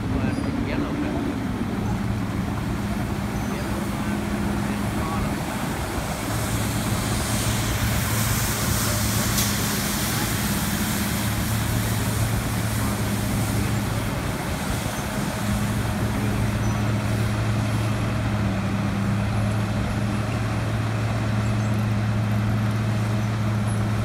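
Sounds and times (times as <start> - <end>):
low diesel hum: 0.0 - 24.0.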